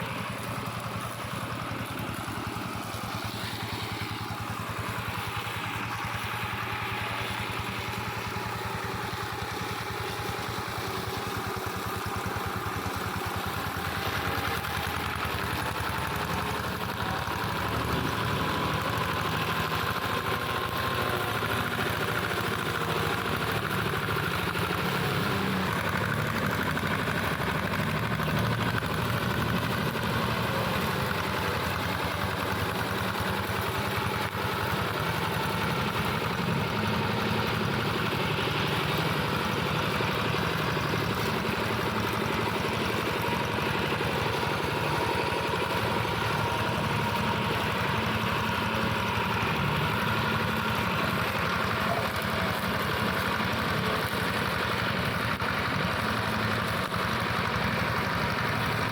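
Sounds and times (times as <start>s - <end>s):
tractor engine running steadily: 0.0s - 58.9s.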